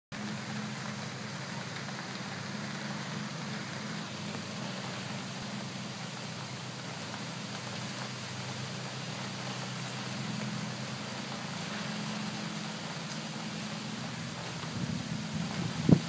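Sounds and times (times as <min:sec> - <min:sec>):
constant even hiss: 0:00.2 - 0:16.0.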